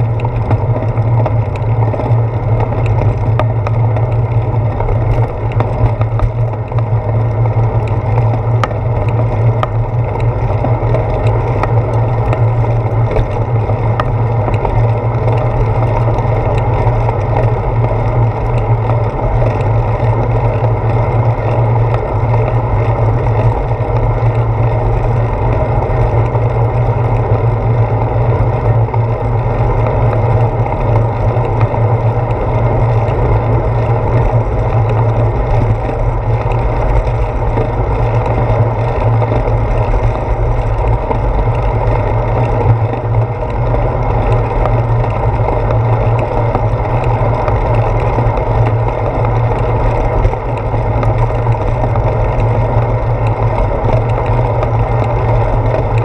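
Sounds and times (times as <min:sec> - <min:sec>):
bicycle road vibration: 0:00.0 - 0:56.0
wind noise rumble: 0:00.0 - 0:56.0.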